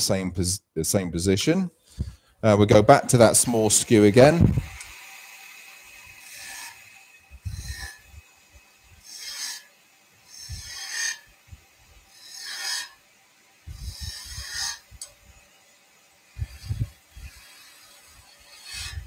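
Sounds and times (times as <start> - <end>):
chisel cutting wood on lathe: 3.1 - 19.0.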